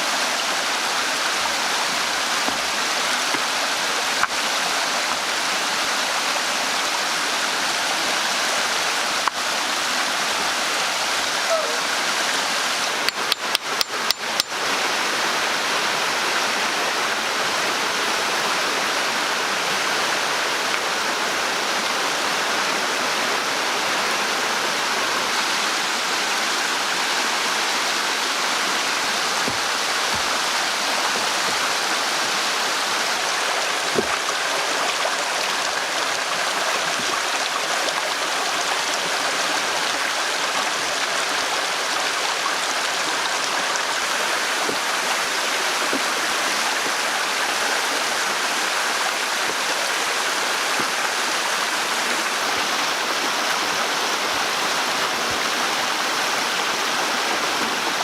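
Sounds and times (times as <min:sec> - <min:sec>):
stream rushing water: 0:00.0 - 0:58.0.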